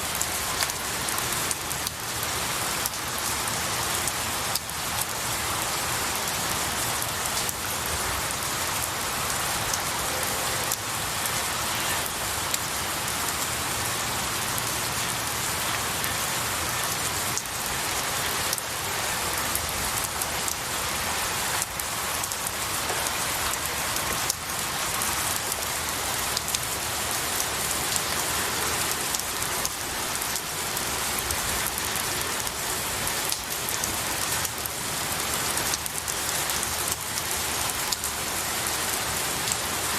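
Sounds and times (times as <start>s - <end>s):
rain pattering on pine needles: 0.0s - 39.9s.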